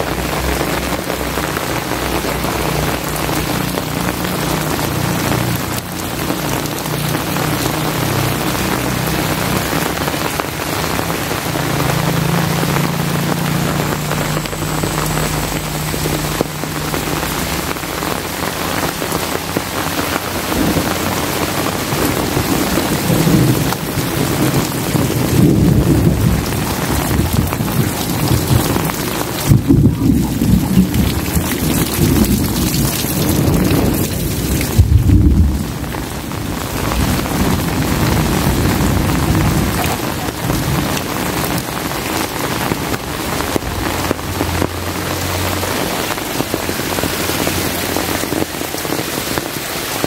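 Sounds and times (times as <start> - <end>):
heavy rain pouring: 0.0 - 50.0
thunder rumbling: 0.0 - 50.0.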